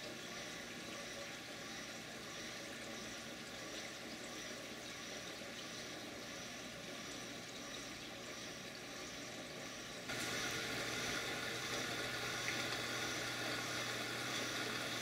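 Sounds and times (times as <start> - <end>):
faint steady hum: 0.0 - 15.0
water circulating in aquarium: 0.0 - 15.0.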